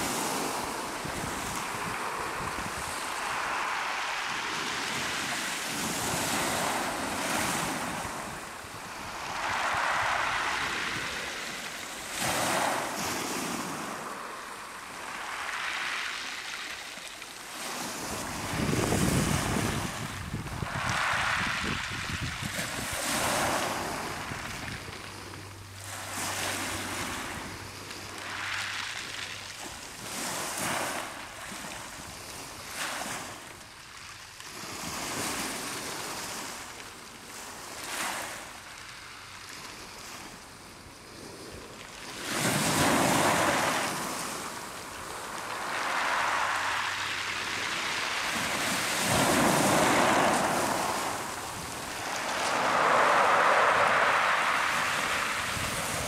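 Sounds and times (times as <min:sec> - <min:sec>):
waves washing over pebbles: 0:00.0 - 0:56.0.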